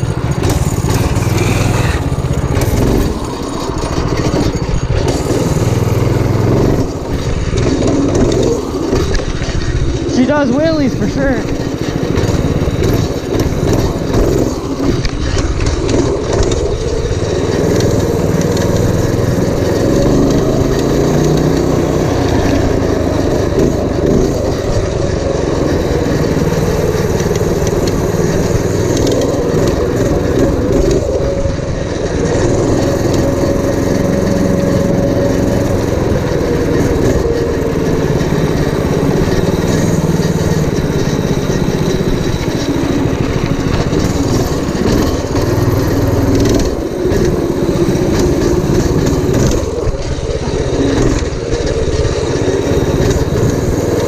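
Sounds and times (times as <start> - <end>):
minibike engine revving: 0.0 - 54.0.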